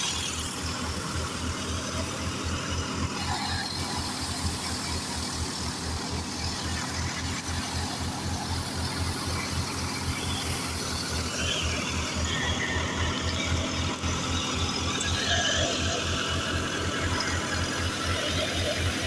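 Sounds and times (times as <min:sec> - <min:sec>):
high wavering squeals: 0:00.0 - 0:19.0
tractor diesel engine running: 0:00.0 - 0:19.0.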